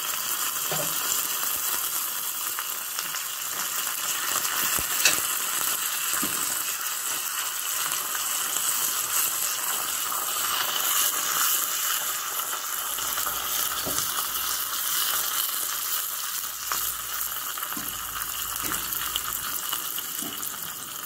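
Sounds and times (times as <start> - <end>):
leaves sizzling in hot oil: 0.0 - 21.0.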